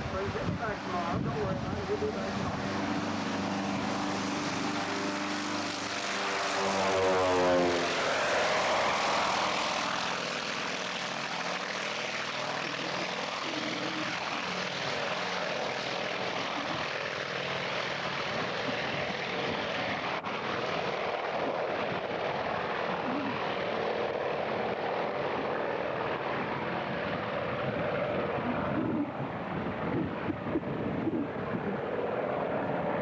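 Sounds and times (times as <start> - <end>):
propeller airplane flying past: 0.0 - 33.0.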